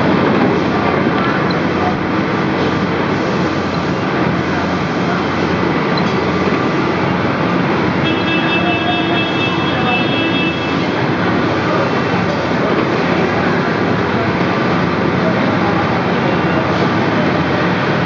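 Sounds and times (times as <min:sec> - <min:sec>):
conveyor belt machinery running: 0:00.0 - 0:18.0.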